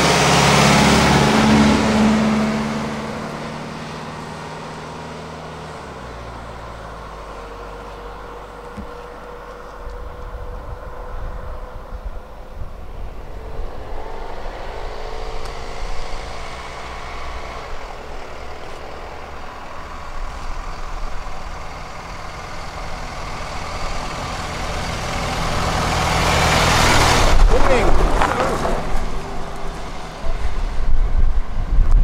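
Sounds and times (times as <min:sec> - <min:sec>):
bus engine running: 0:00.0 - 0:32.0
rising engine whine: 0:00.0 - 0:32.0.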